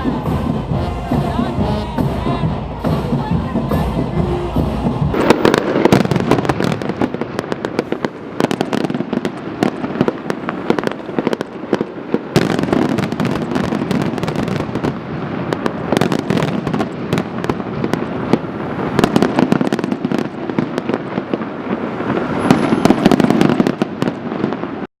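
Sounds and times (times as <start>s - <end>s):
fireworks bangs and crackles: 0.0s - 24.9s.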